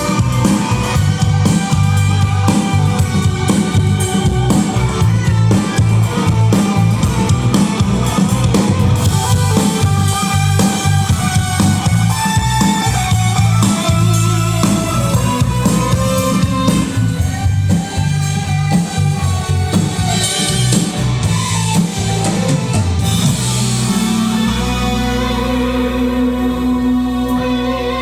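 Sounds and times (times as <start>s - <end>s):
drums: 0.0s - 28.0s
live rock band playing: 0.0s - 28.0s.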